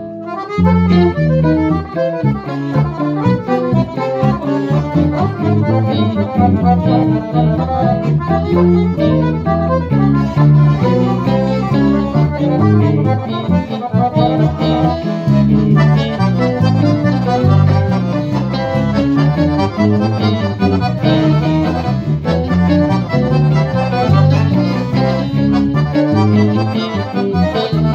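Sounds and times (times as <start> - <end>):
accordion playing melody: 0.0 - 27.9
electric guitar accompaniment: 0.0 - 27.9.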